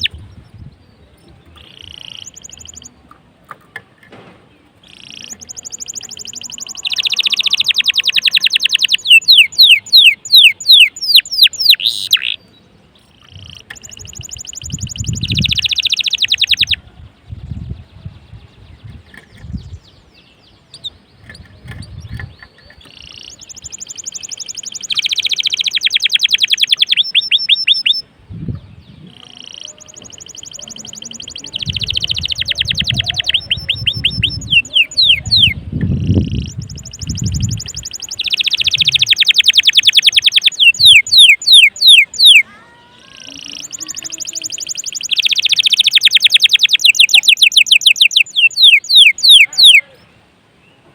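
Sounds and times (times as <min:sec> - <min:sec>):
canary singing trills: 0:00.0 - 0:03.7, 0:04.7 - 0:50.2.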